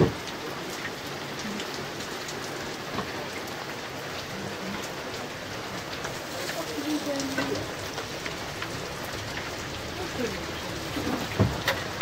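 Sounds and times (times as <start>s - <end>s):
raindrops tapping: 0.0s - 12.0s
steady rain hiss: 0.0s - 12.0s.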